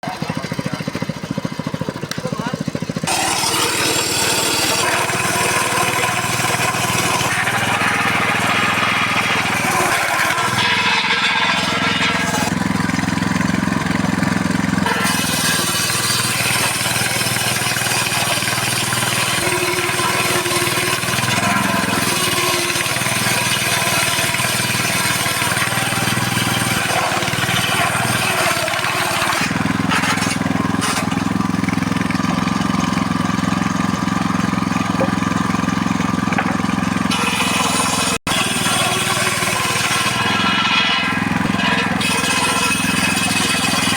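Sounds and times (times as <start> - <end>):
circular saw cutting wood: 0.0 - 43.9.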